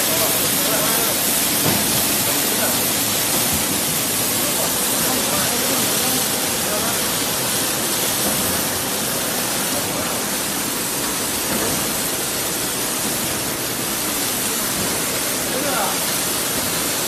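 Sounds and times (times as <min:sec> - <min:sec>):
water jets spraying and splashing: 0:00.0 - 0:17.0.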